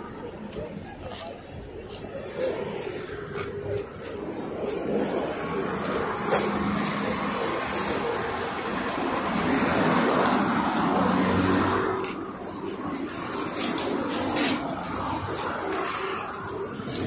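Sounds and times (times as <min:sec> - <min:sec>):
trolleybus passing: 0:00.0 - 0:17.0.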